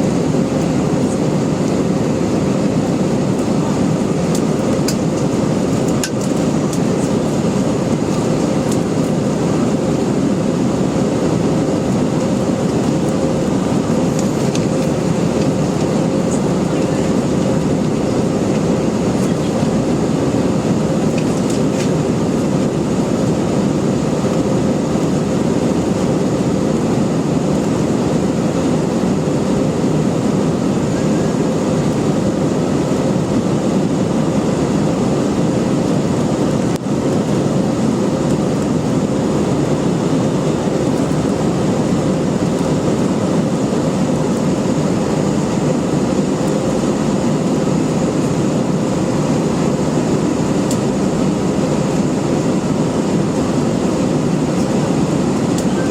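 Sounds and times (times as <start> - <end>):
jet engine noise: 0.0 - 55.9.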